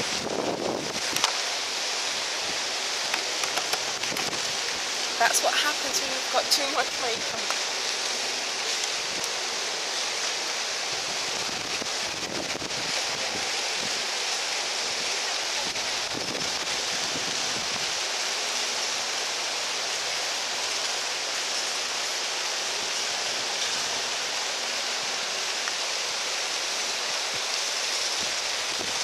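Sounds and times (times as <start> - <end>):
steady rushing hiss: 0.0 - 29.0.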